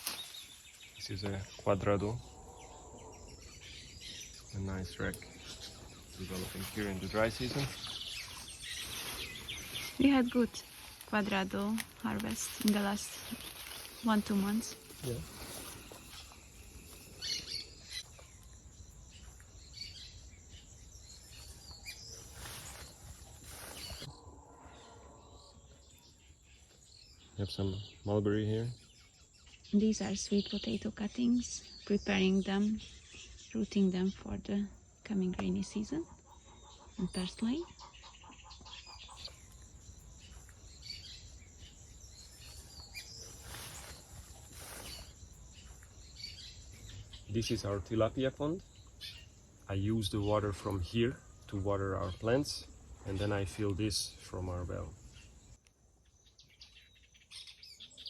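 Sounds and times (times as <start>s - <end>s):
bird chirps: 0.0s - 58.0s
faint outdoor background: 0.0s - 58.0s
insect calls: 0.0s - 58.0s.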